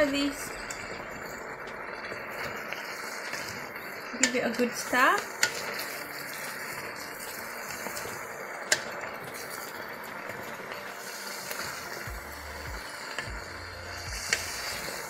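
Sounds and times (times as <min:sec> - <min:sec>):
vegetables sizzling in a pot: 0:00.0 - 0:15.0
wooden spoon stirring: 0:00.0 - 0:15.0.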